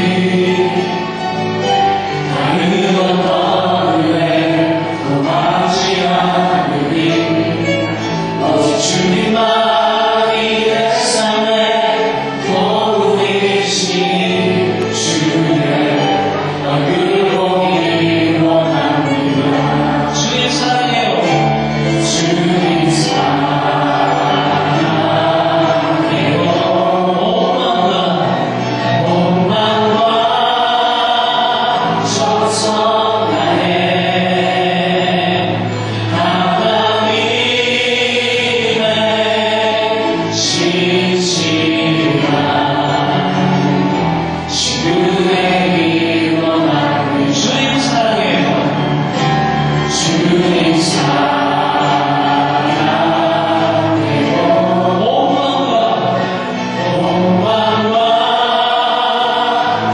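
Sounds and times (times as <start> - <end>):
men and women singing gospel: 0.0 - 59.9.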